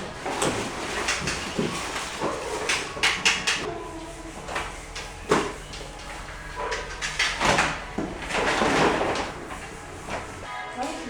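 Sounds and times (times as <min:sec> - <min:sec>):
knocks and clatters of objects: 0:00.0 - 0:03.7, 0:04.4 - 0:10.5.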